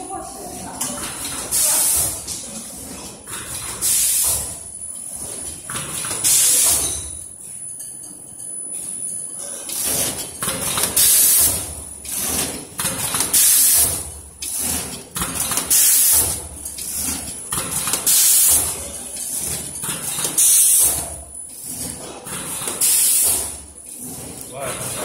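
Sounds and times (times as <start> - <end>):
packing machine clatter: 0.0 - 7.4, 9.3 - 25.0.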